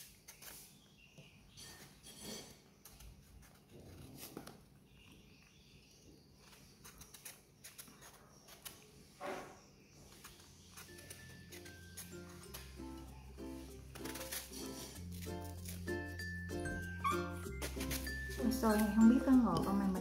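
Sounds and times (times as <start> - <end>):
knife scraping mango skin: 0.0 - 4.7, 6.4 - 16.3, 17.2 - 20.0.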